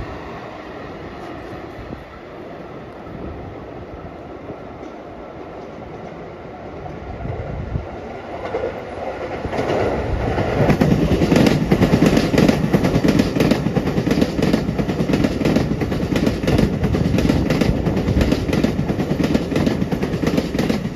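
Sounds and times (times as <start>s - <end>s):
electric train passing: 0.0s - 20.9s.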